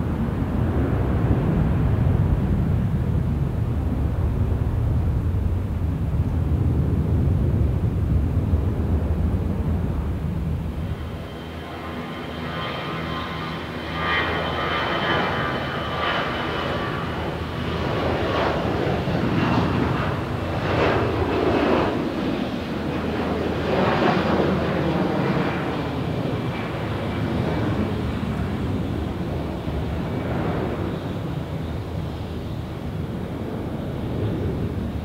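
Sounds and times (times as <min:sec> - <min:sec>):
jet airliner taking off: 0:00.0 - 0:35.0.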